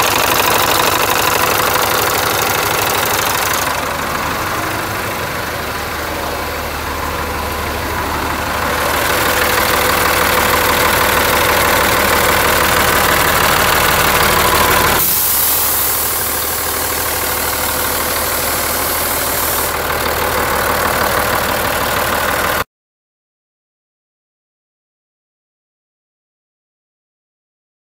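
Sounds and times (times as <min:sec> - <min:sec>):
diesel engine running: 0:00.0 - 0:22.7.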